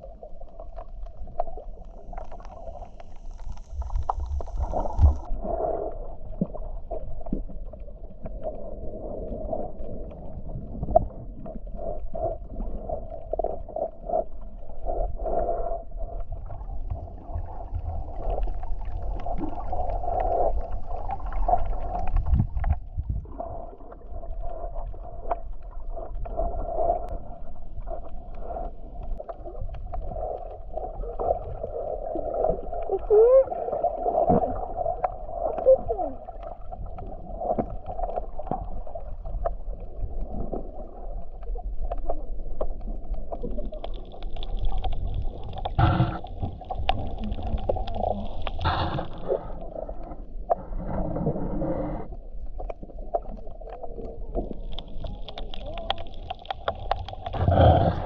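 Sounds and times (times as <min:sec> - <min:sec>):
water gurgling underwater: 0:00.0 - 0:58.0.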